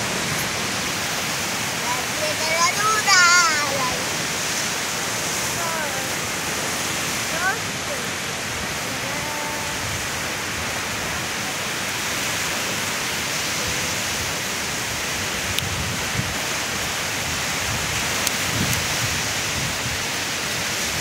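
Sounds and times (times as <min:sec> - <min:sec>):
ocean surf breaking on sand: 0:00.0 - 0:21.0.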